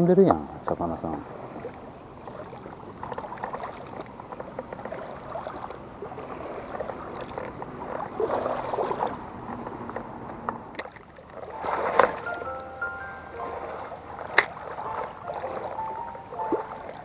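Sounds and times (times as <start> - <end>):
lake water splashing and lapping: 0.0 - 17.0.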